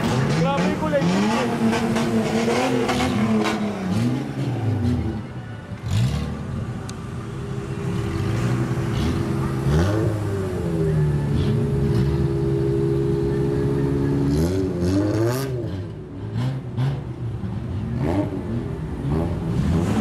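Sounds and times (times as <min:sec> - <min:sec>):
car engines revving: 0:00.0 - 0:20.0
cars driving past: 0:00.0 - 0:20.0.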